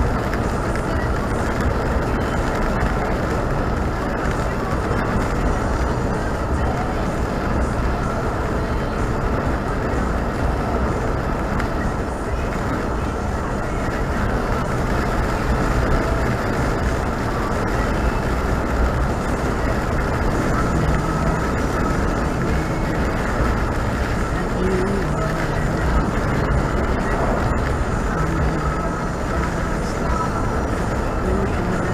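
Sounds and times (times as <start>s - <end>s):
car driving on highway: 0.0s - 31.9s.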